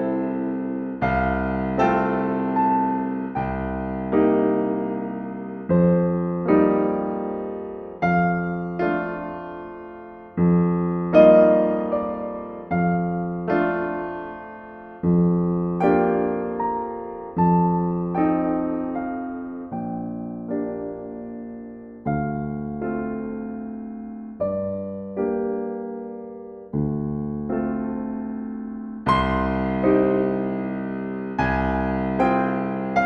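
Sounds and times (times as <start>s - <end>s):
slow solo piano music: 0.0s - 33.0s.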